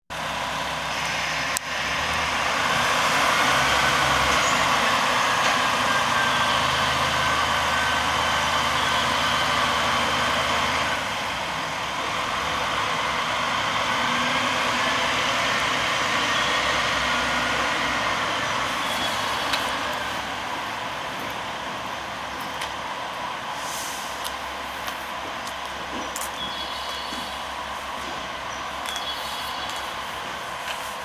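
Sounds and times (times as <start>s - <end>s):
railcar diesel engine running hard: 0.1s - 31.0s.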